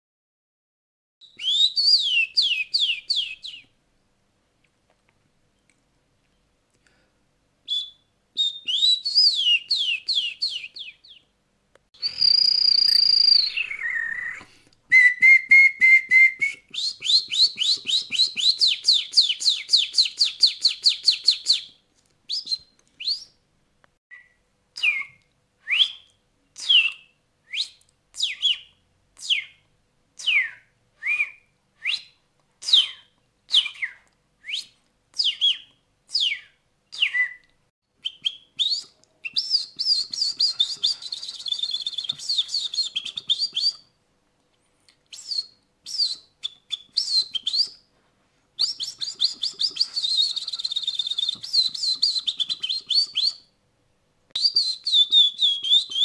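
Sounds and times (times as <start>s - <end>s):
person whistling birdsong: 1.2s - 3.7s, 7.7s - 11.3s, 12.0s - 23.4s, 24.1s - 29.6s, 30.2s - 43.9s, 45.1s - 47.8s, 48.6s - 53.4s, 54.4s - 56.0s.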